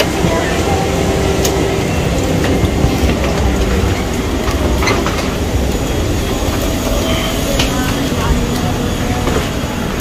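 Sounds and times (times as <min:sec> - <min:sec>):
low rumble of air handling: 0:00.0 - 0:10.0.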